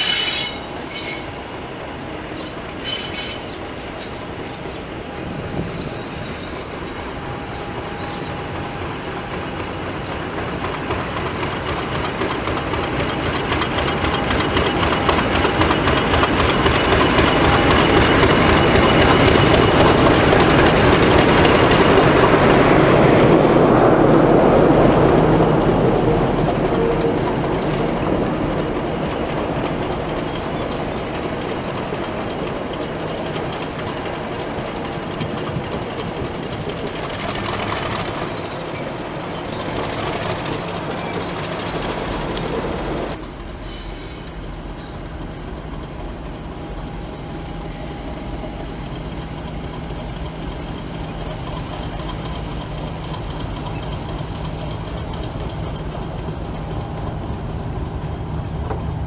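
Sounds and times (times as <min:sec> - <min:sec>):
locomotive engine drone: 0:00.0 - 0:59.0
wheel and track noise: 0:00.0 - 0:59.0.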